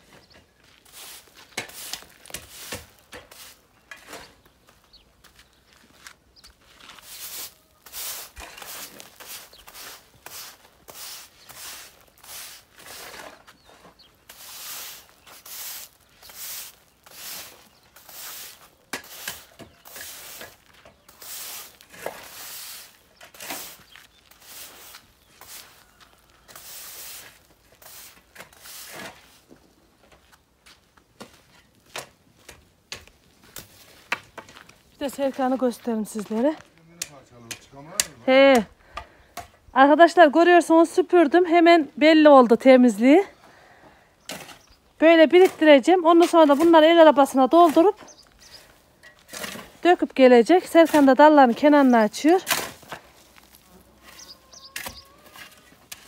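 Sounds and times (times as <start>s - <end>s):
broom sweeping dirt: 0.0s - 32.6s, 33.3s - 36.7s, 45.3s - 56.0s.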